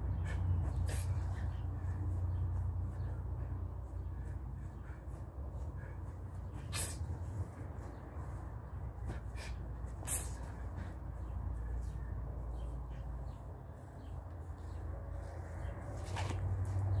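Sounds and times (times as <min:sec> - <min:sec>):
steady low hum: 0:00.0 - 0:17.0
faint rustles: 0:00.1 - 0:17.0.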